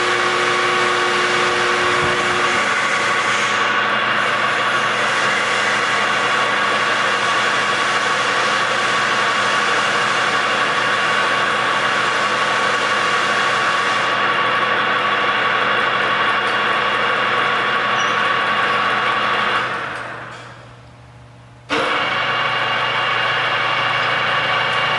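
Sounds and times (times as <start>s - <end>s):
lathe motor humming and whining: 0.0s - 20.3s, 21.7s - 24.9s.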